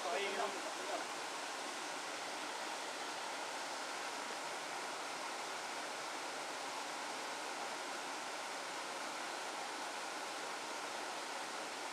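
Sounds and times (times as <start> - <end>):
stream water rushing: 0.0 - 11.9.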